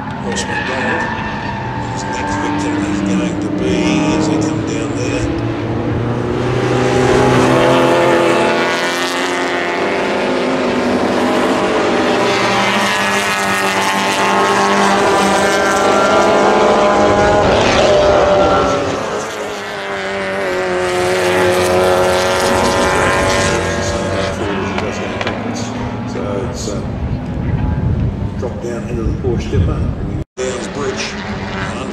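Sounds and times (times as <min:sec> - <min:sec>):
race car engines revving: 0:00.0 - 0:31.9.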